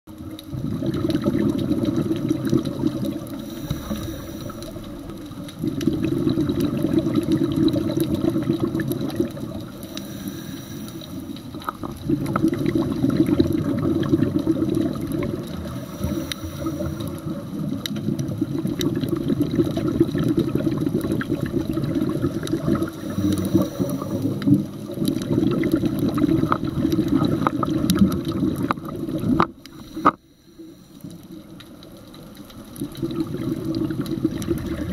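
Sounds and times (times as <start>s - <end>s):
underwater exhaled bubbles: 0.1s - 34.9s.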